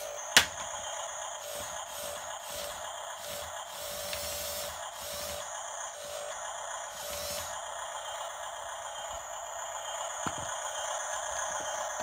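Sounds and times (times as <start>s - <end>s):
steady pulsing sound: 0.0s - 12.0s
toy motor and gears whirring: 0.0s - 12.0s.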